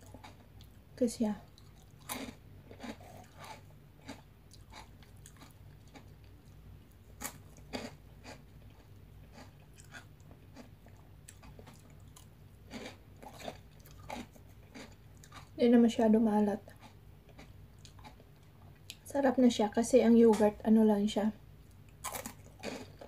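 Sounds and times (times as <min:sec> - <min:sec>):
chewing crunchy snacks: 0:00.0 - 0:00.8, 0:01.4 - 0:15.6, 0:16.6 - 0:19.0, 0:21.7 - 0:23.0
faint low hum: 0:00.0 - 0:23.0.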